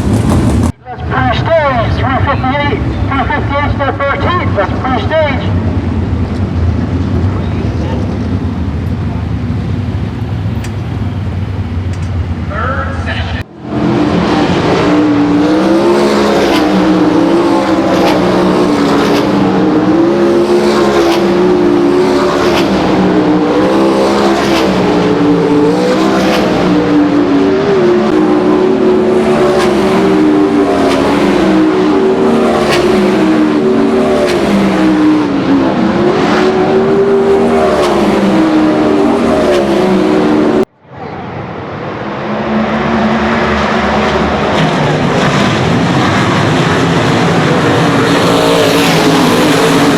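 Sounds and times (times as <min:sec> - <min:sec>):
race car engines accelerating: 0:00.0 - 0:49.9.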